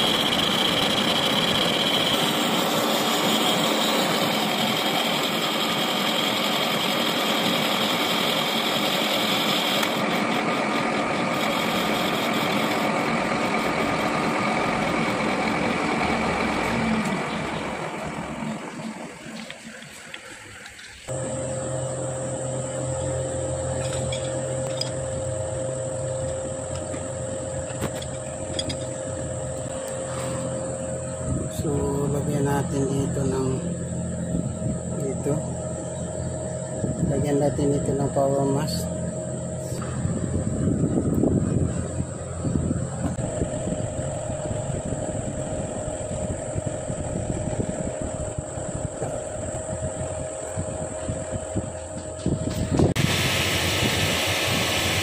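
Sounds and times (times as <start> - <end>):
electric motor humming: 0.0 - 55.0
metal lathe running: 0.0 - 55.0.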